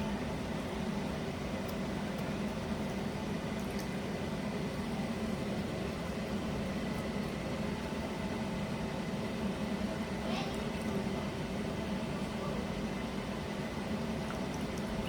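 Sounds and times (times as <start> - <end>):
soup boiling in a pot: 0.1 - 15.0.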